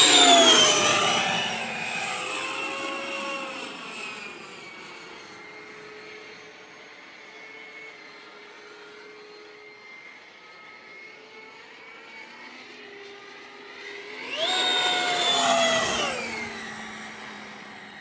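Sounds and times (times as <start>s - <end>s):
model jet fan whining: 0.0s - 18.0s.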